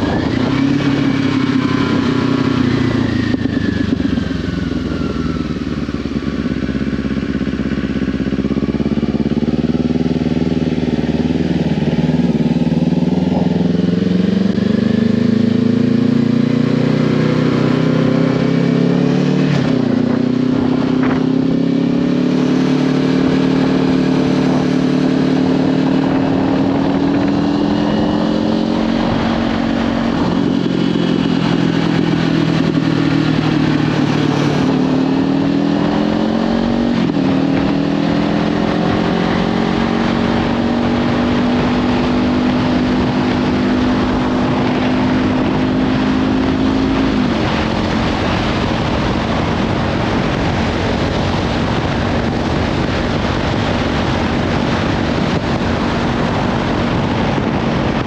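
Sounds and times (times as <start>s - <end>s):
motorcycle engine at road speed: 0.0s - 58.0s
wind buffeting microphone: 0.0s - 58.0s.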